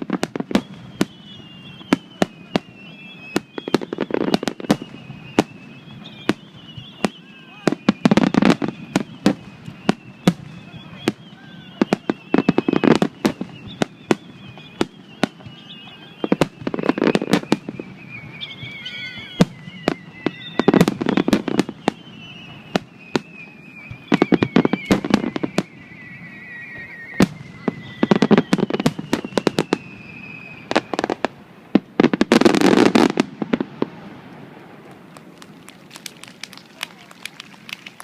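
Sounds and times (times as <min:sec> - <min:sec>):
fireworks cracks and bangs: 0:00.0 - 0:38.0.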